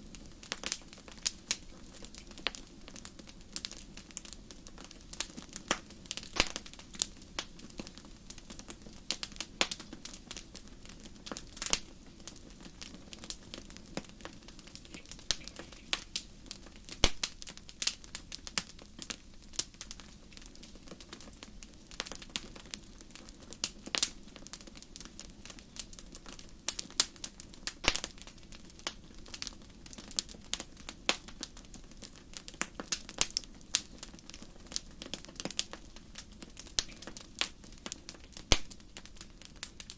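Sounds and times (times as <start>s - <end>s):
campfire crackling: 0.0s - 39.9s
soft low background noise: 0.0s - 39.9s.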